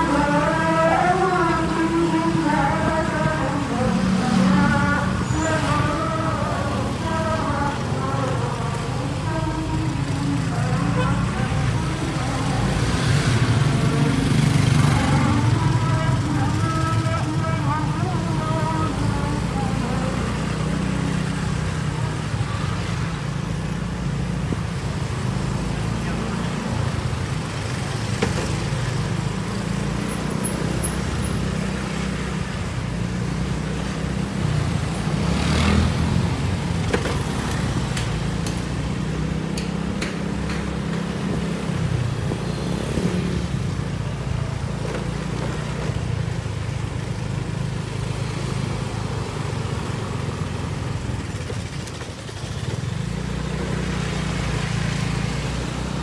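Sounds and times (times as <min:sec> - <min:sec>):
scooters and cars passing: 0:00.0 - 0:56.0.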